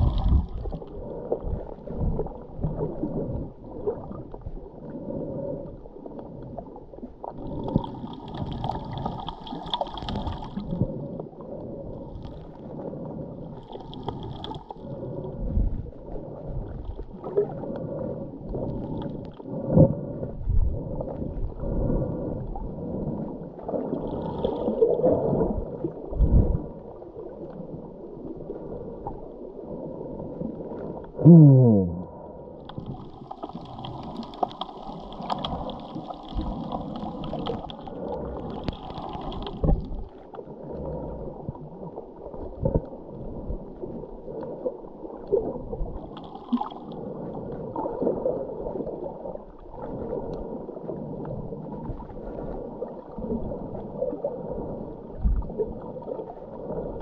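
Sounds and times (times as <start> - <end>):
underwater bubbles gurgling: 0.0 - 57.0.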